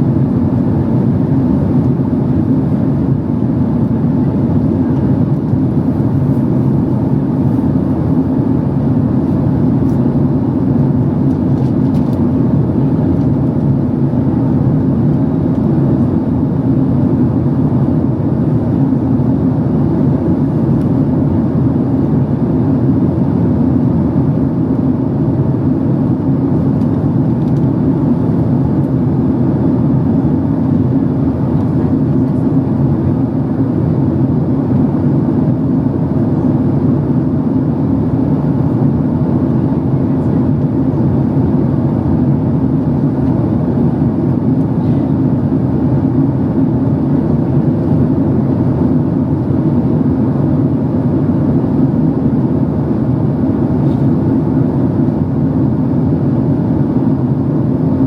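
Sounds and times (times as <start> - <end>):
airliner cabin rumble and airflow roar: 0.0 - 58.0.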